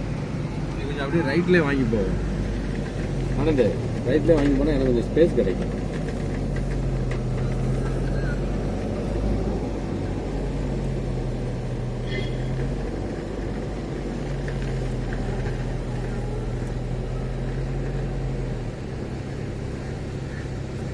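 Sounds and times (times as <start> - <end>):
road noise: 0.0 - 20.9
vehicle engine running: 0.0 - 20.9.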